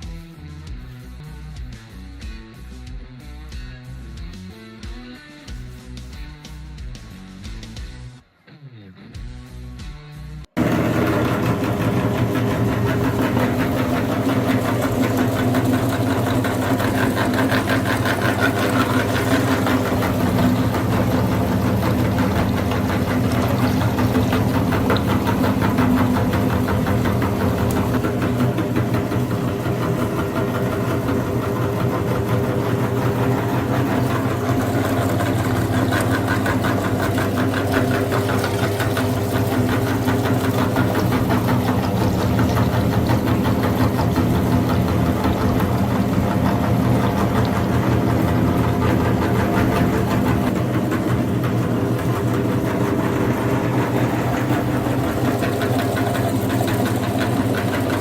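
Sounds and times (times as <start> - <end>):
electric meat grinder motor humming: 10.6 - 58.0
rapid crackle of grinding: 10.6 - 58.0.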